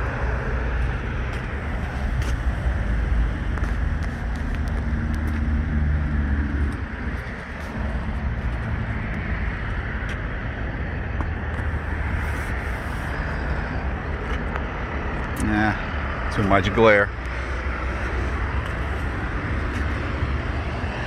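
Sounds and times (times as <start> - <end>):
outdoor noise: 0.0 - 21.0
vehicle engine rumbling: 0.0 - 21.0.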